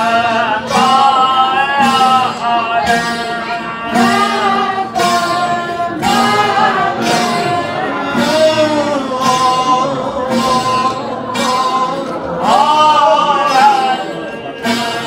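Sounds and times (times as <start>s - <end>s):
man singing devotional song: 0.0s - 15.0s
plucked lutes: 0.0s - 15.0s.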